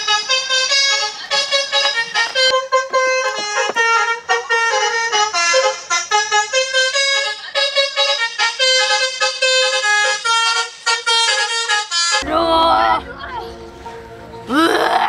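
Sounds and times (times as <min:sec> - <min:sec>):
multi-note horn tune: 0:00.0 - 0:12.9.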